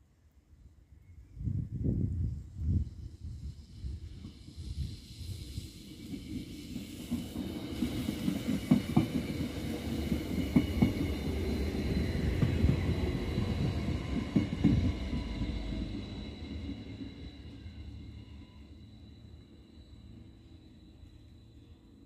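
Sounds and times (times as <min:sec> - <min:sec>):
train low rumble: 0:01.4 - 0:22.0.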